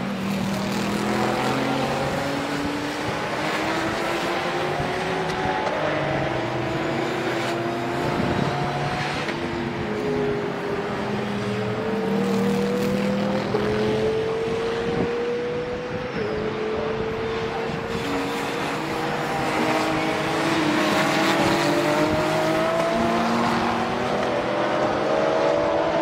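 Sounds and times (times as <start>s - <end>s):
distant race car engines accelerating: 0.0s - 26.0s.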